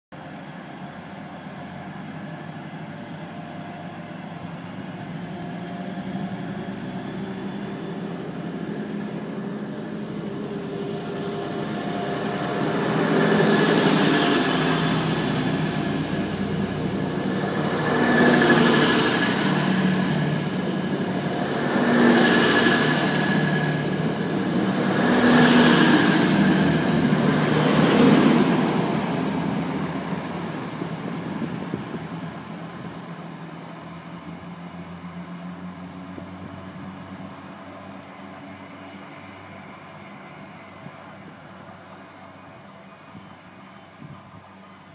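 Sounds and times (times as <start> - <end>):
diesel train pulling away: 0.2 - 44.9.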